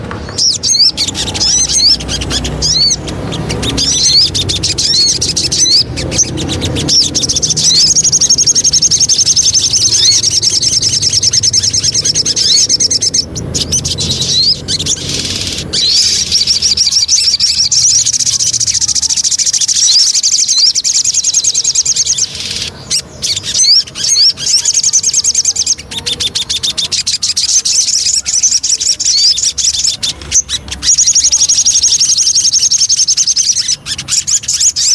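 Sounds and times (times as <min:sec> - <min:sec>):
songbird chirping trills: 0:00.0 - 0:34.9.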